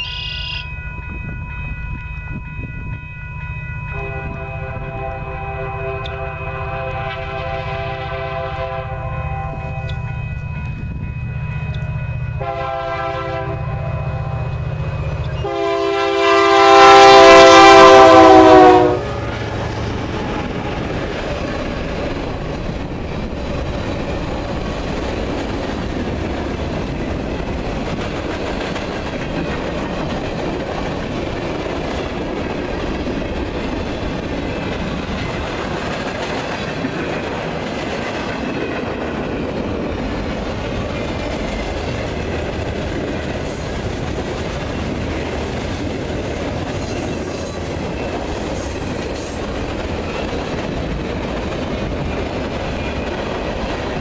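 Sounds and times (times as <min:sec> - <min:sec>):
freight train wheels clattering: 0:04.2 - 0:54.0.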